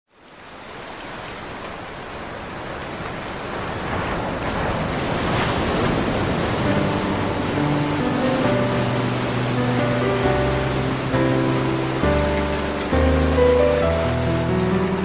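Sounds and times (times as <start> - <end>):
sea waves breaking on rocky shore: 0.2 - 15.0.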